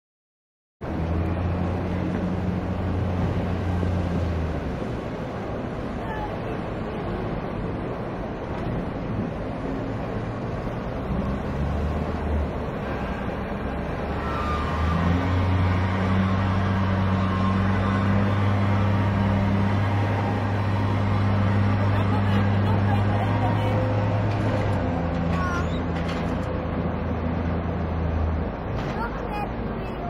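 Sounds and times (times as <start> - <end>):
diesel engine drone: 0.8 - 30.0.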